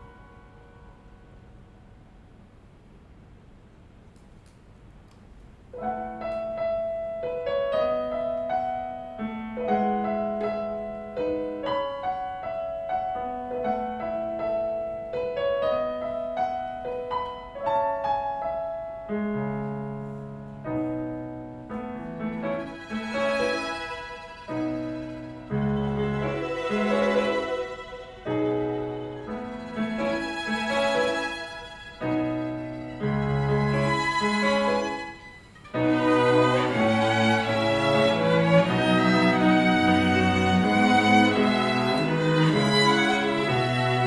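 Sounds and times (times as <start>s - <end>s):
piano melody over chords: 0.0s - 1.9s, 5.8s - 44.0s.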